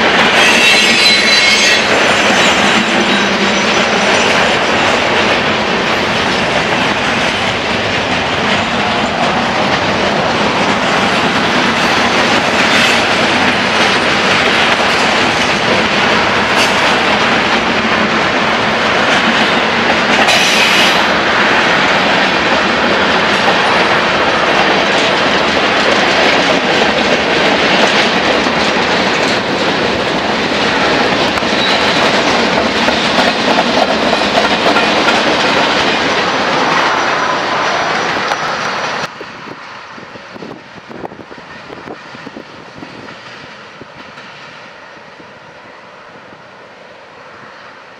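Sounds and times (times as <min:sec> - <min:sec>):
freight train wheels clattering: 0:00.0 - 0:45.3.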